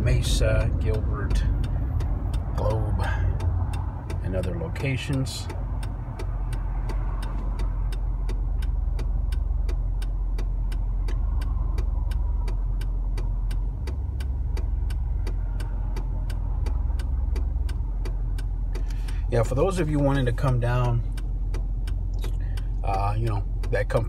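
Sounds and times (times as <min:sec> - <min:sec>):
car engine idling: 0:00.0 - 0:24.0
turn signal ticking: 0:00.0 - 0:24.0.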